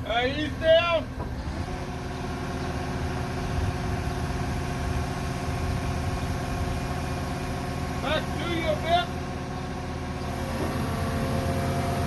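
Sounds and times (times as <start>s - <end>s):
construction machine engine running: 0.0s - 12.0s.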